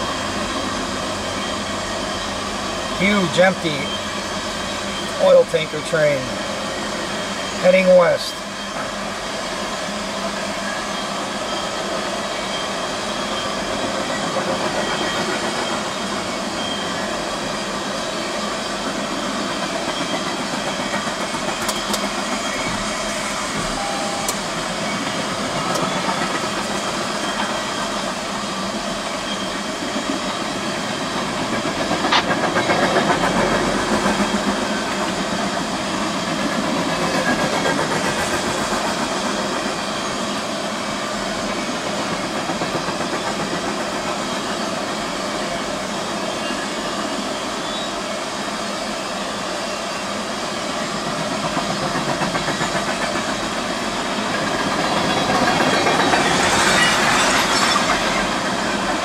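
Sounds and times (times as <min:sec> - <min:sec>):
steel wheels hissing on rail: 0:00.0 - 0:59.0.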